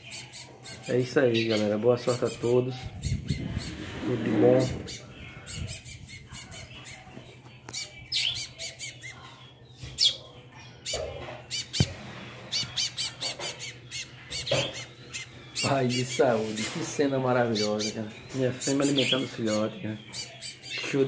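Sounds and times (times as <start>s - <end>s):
fledglings chirping: 0.0s - 21.0s.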